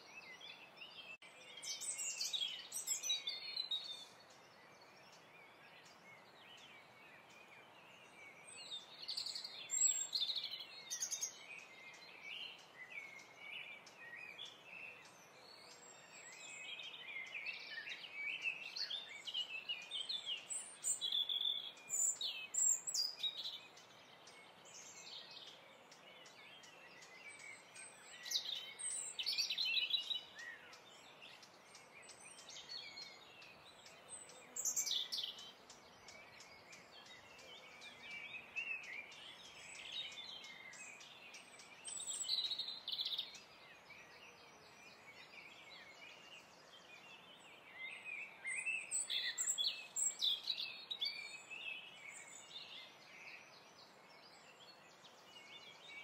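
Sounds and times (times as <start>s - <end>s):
faint steady hiss: 0.0s - 56.0s
small birds chirping: 0.0s - 56.0s.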